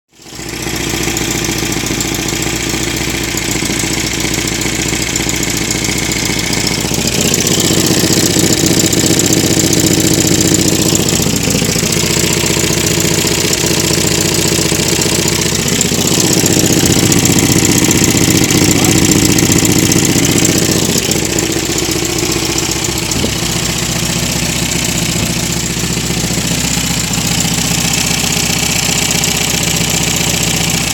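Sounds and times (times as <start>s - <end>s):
car engine drumming: 0.3s - 30.9s.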